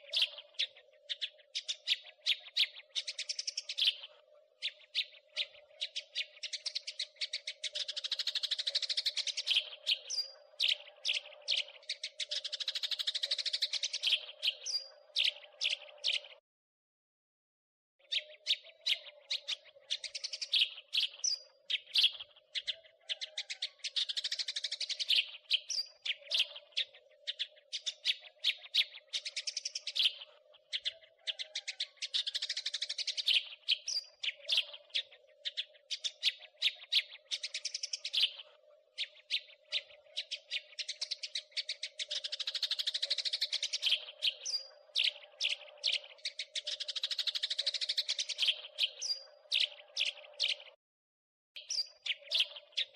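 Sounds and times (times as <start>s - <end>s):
sparrow chattering: 0.0s - 16.3s, 18.0s - 50.8s, 51.6s - 52.9s.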